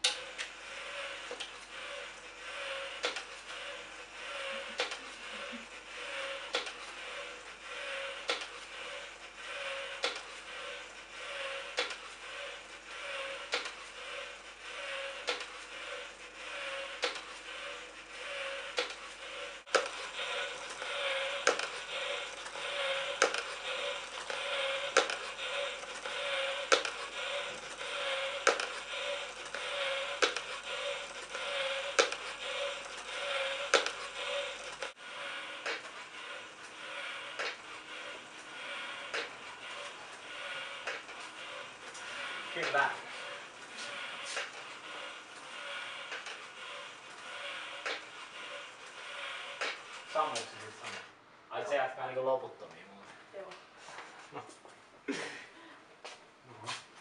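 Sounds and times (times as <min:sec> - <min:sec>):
small electric motor humming: 0:00.0 - 0:51.0.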